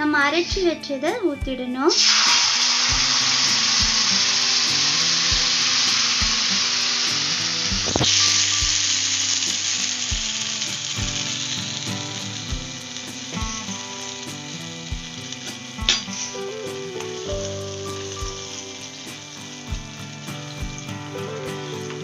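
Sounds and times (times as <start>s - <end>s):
batter sizzling in hot oil: 1.9s - 22.0s.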